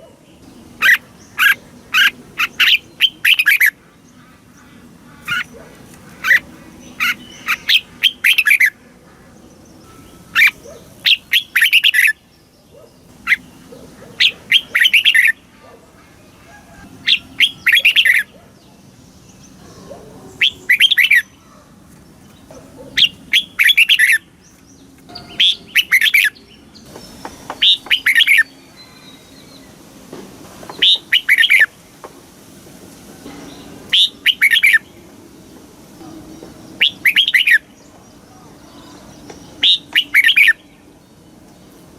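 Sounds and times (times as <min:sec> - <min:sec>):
bird singing warbled phrases: 0:00.0 - 0:29.8, 0:30.7 - 0:32.0, 0:33.5 - 0:35.2, 0:35.8 - 0:41.9.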